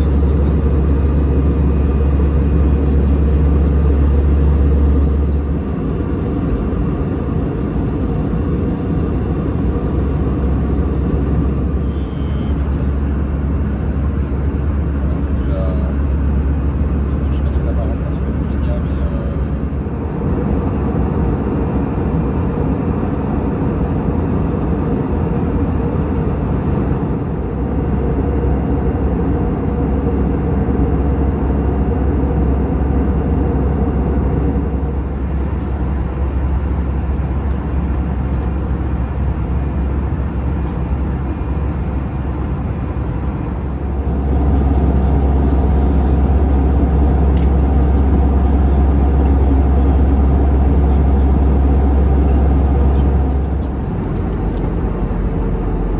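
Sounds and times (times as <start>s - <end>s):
airplane cabin engine roar: 0.0s - 55.9s.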